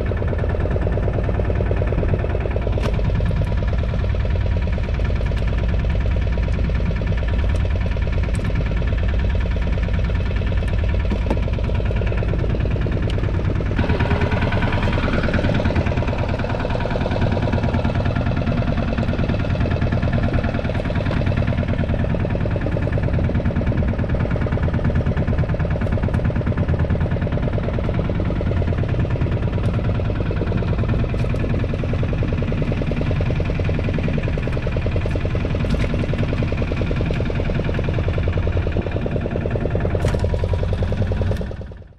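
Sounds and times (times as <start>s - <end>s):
boat engine chugging: 0.0s - 41.9s.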